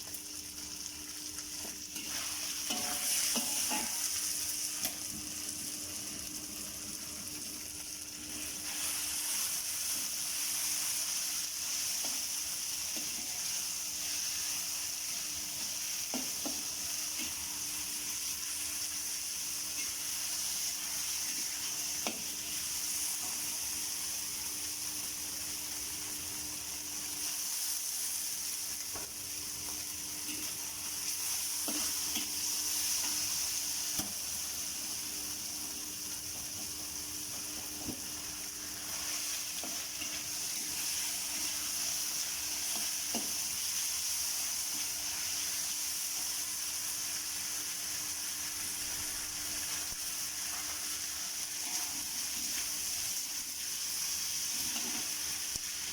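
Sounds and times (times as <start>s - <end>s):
food sizzling in a pan: 0.0s - 55.9s.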